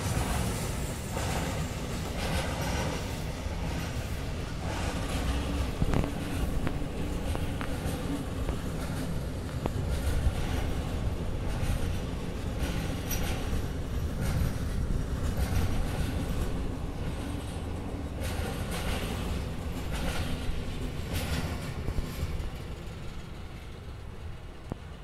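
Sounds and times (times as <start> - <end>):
steel wheels rumbling on rails: 0.0 - 25.0.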